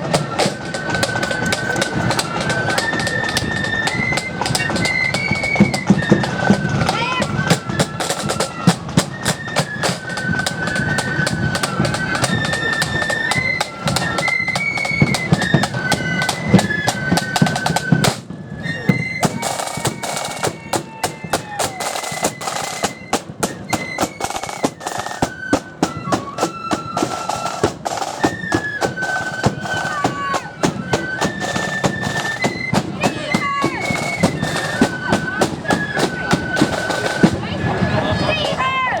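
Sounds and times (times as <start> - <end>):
snare drum rolls: 0.0 - 38.8
flutes playing melody: 0.0 - 39.0.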